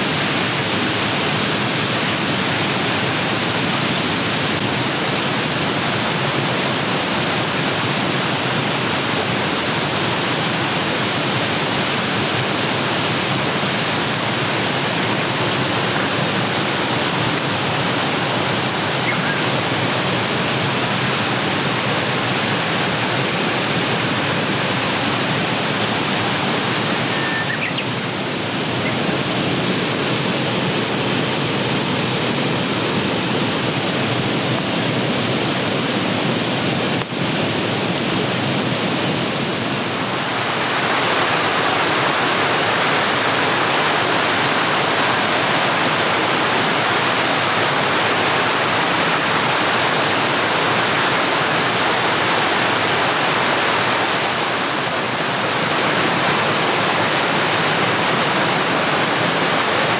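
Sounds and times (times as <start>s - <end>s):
rushing flowing water: 0.0s - 59.9s.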